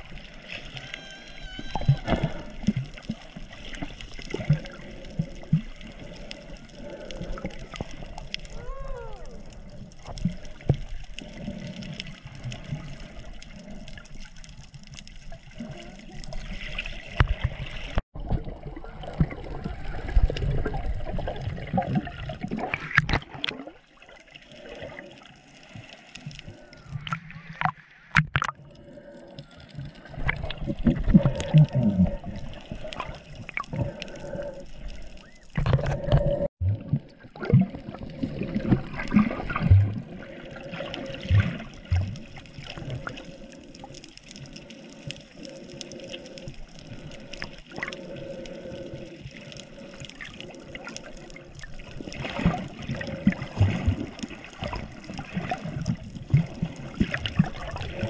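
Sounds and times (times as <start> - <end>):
water sloshing and gurgling: 0.0 - 58.0.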